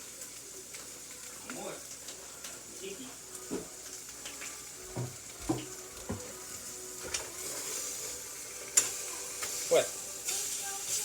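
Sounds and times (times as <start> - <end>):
eggs sizzling in a pan: 0.0 - 11.0.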